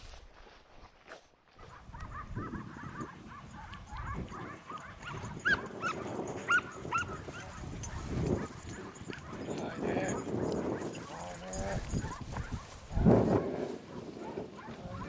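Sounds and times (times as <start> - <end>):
dogs yelping and barking: 1.6 - 15.0.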